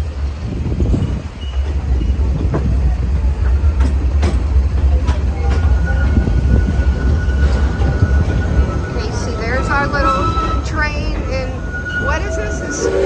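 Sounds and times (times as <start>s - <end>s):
train low rumble: 0.0s - 13.0s
wheels clicking on rails: 0.0s - 13.0s.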